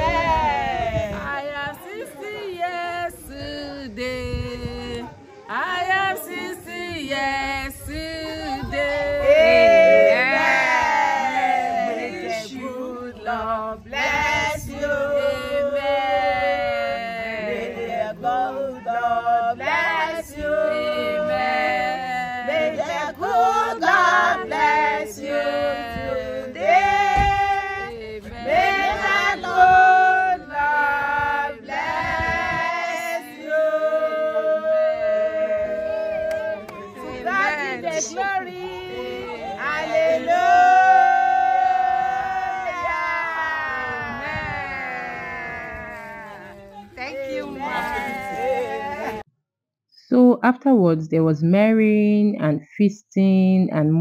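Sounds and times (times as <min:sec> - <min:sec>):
group of people singing: 0:00.0 - 0:49.3.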